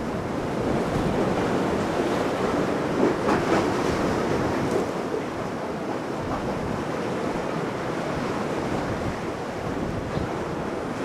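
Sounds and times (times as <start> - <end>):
waves washing and splashing: 0.0 - 11.0
wind buffeting microphone: 0.0 - 11.0.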